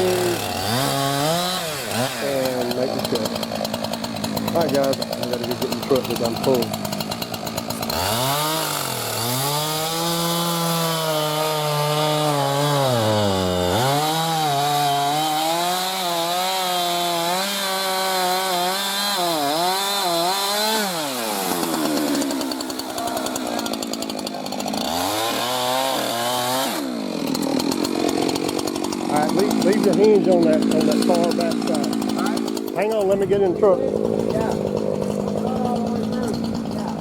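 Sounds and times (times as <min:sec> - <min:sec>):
chainsaw cutting tree trunk: 0:00.0 - 0:37.0.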